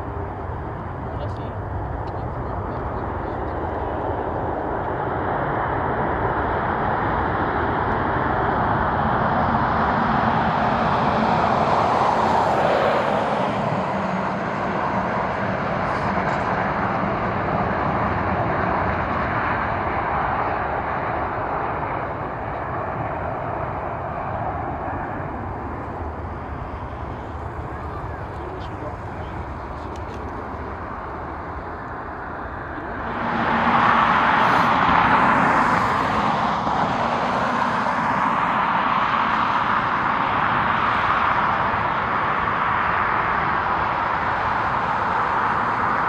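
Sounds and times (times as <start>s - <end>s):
airliner engine passing: 0.0s - 46.0s.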